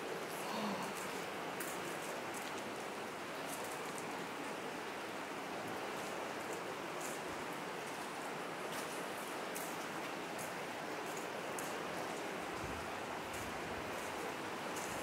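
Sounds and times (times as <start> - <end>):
water trickling and dripping: 0.2 - 15.0.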